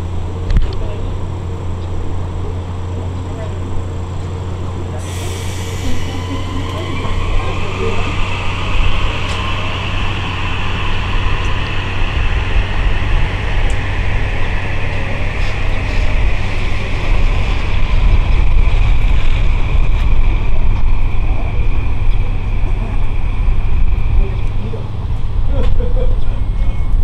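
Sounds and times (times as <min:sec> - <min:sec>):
electric train rumbling: 0:00.0 - 0:27.0.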